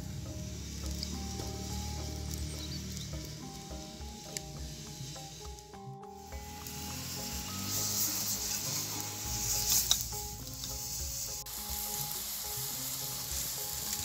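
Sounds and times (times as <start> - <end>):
water boiling in wok: 0.0 - 14.0.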